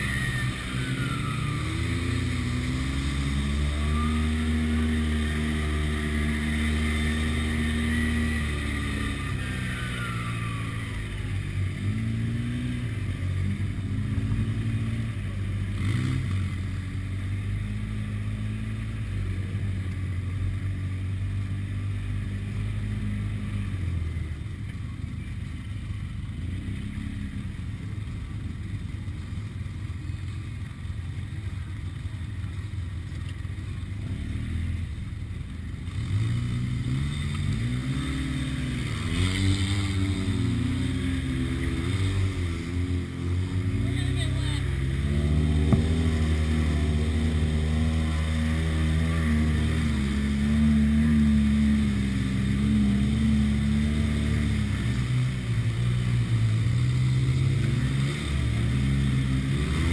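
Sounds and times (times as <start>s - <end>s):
utv engine running: 0.0s - 59.9s.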